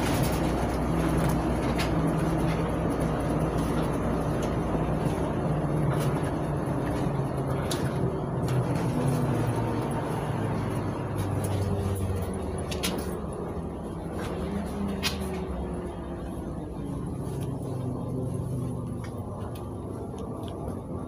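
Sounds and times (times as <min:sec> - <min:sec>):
bus engine humming: 0:00.0 - 0:21.0
road noise: 0:00.0 - 0:21.0.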